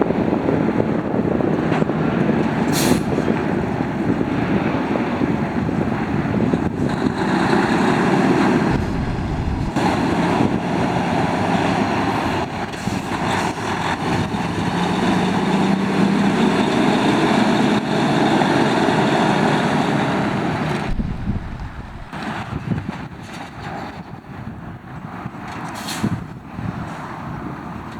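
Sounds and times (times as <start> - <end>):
diesel truck engine running: 0.1 - 22.5.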